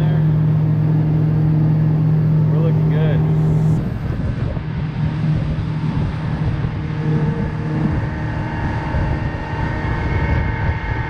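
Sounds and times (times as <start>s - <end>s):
boat engine humming: 0.0s - 11.0s
wind on microphone: 0.0s - 11.0s.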